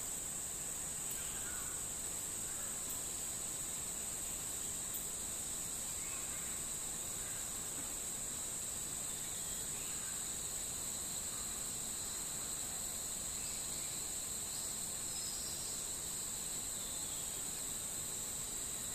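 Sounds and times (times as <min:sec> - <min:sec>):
high-pitched insect chorus: 0:00.0 - 0:18.9.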